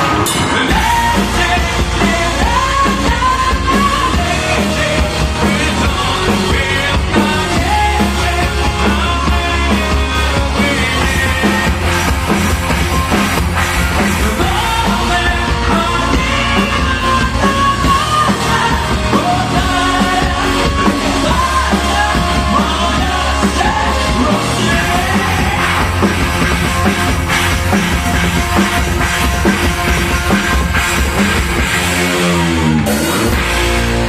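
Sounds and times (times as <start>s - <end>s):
person singing: 0.0s - 13.3s, 13.9s - 31.4s
heavy metal band playing: 0.0s - 34.0s.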